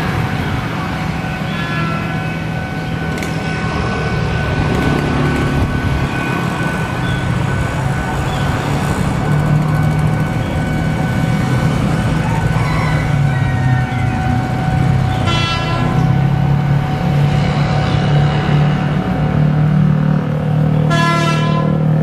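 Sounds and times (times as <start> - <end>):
continuous high-pitched tone: 0.0 - 22.0
motor vehicles running: 0.0 - 22.0.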